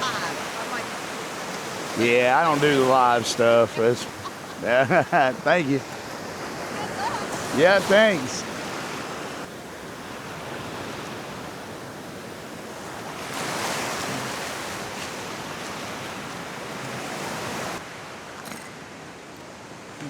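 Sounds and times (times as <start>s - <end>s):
waves breaking on beach: 0.0s - 20.0s.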